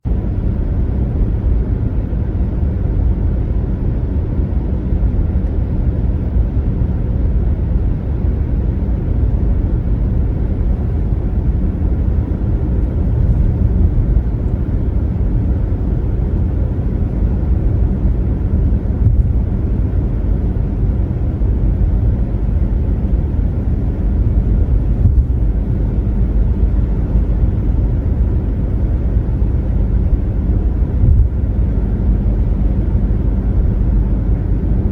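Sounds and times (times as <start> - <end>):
car cruising road noise: 0.0 - 34.9.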